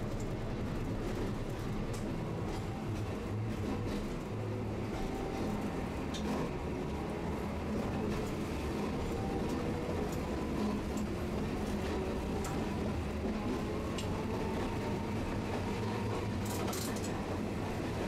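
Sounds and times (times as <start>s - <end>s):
streetcar rumbling: 0.0s - 18.0s.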